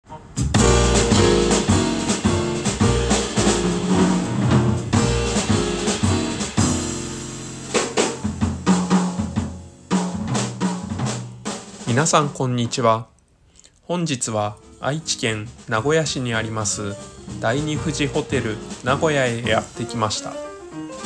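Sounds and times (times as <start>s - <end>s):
jazz piano: 0.0s - 13.1s, 14.1s - 21.0s
upright bass: 0.2s - 11.2s, 14.2s - 21.0s
drum kit hits: 0.2s - 12.4s, 14.6s - 21.0s.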